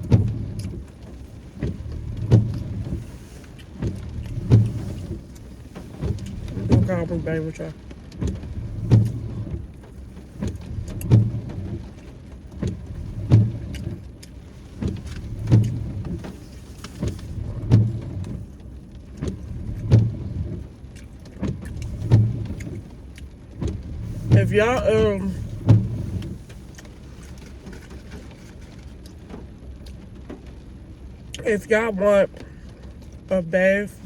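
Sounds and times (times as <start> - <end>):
car humming: 0.0 - 34.0
windshield wipers thumping and clicking: 0.0 - 34.0.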